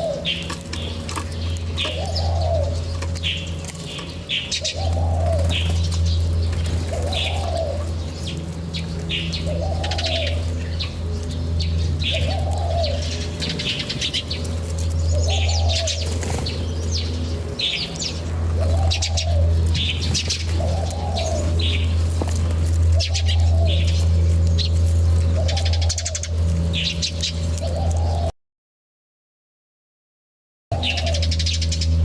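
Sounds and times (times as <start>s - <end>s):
dove cooing: 0.0s - 28.3s, 30.7s - 32.0s
small birds chirping: 0.0s - 28.3s, 30.7s - 32.0s
steady low hum: 0.0s - 28.3s, 30.7s - 32.0s.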